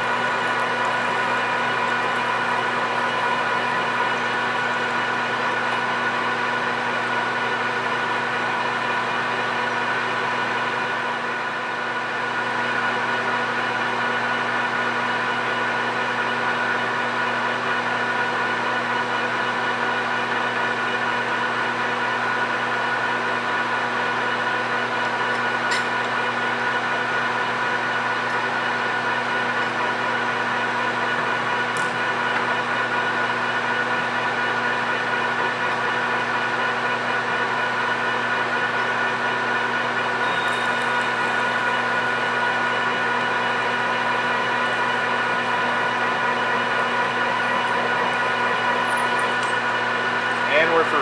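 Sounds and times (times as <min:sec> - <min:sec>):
lathe machine hum: 0:00.0 - 0:51.0.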